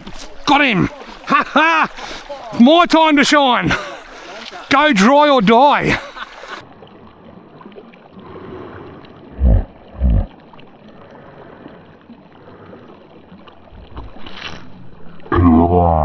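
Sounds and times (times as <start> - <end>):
small stream running: 0.0 - 16.0.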